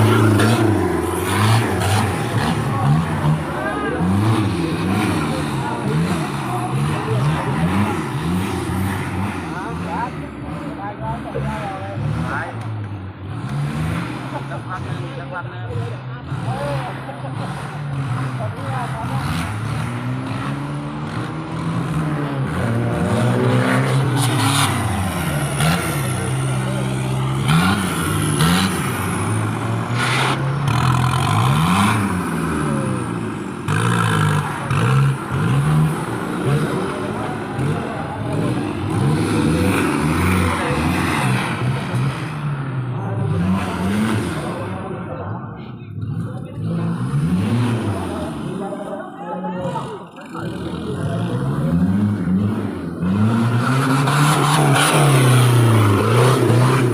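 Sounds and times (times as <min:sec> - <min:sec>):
engine revving up and down: 0:00.0 - 0:56.9.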